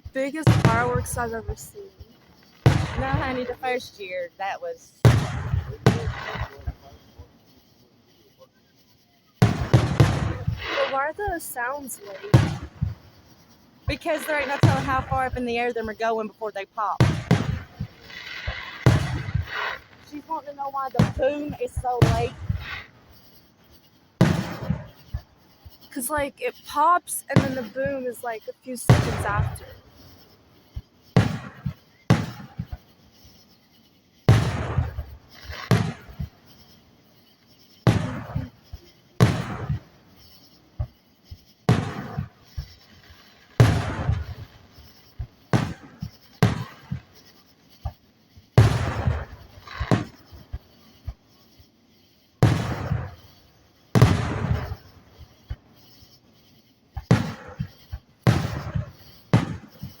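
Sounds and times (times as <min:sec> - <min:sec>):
firework shells booming: 0:00.0 - 0:08.4, 0:09.3 - 1:00.0.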